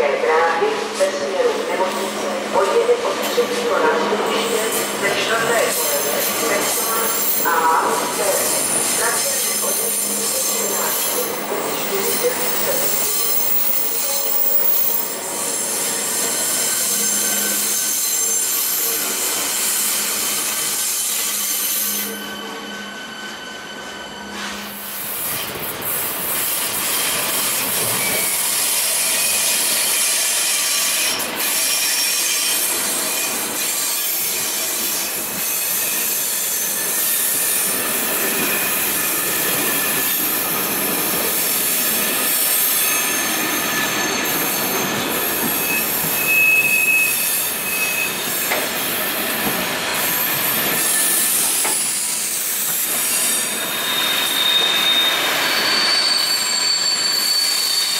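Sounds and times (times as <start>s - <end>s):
train rolling slowly: 1.1s - 57.9s
wheels squealing against rails: 3.3s - 57.9s.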